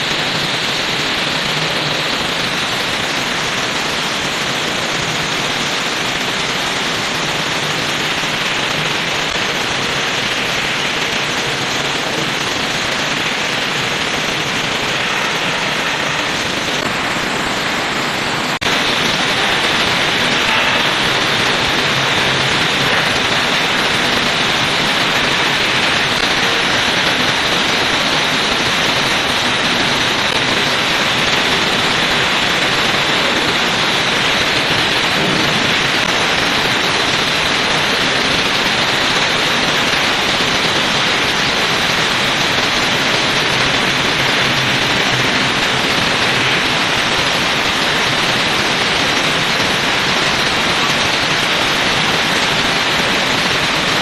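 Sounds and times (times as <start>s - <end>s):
welding arc crackling hiss: 0.0s - 54.0s.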